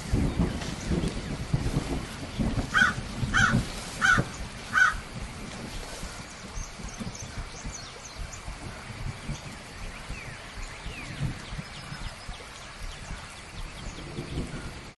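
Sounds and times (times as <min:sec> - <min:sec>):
small birds chirping: 0:00.0 - 0:14.9
steady hiss: 0:00.0 - 0:14.9.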